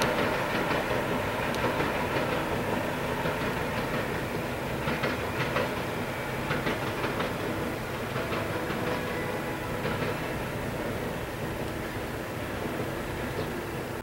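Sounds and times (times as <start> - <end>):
wheels clicking and clattering: 0.0 - 11.8
train rumble on rails: 0.0 - 14.0.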